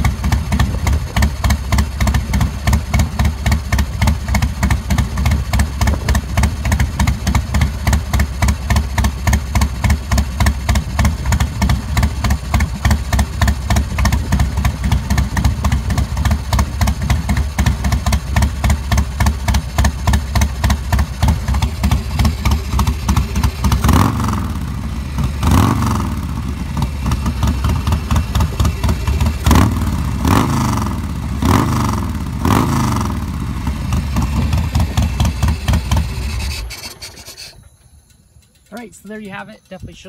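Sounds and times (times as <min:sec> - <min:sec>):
motorcycle engine revving: 0:00.0 - 0:37.6
motorcycle engine idling: 0:00.0 - 0:40.0.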